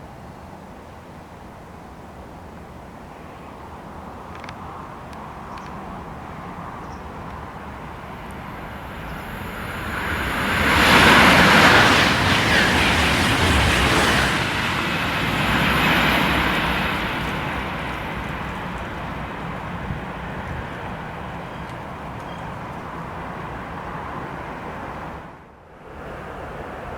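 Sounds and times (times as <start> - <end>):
high-speed train rushing past: 2.1 - 26.9.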